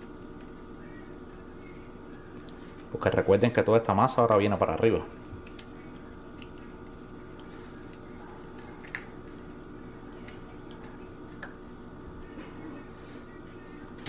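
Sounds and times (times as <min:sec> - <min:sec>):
steady faint hum: 0:00.0 - 0:14.0.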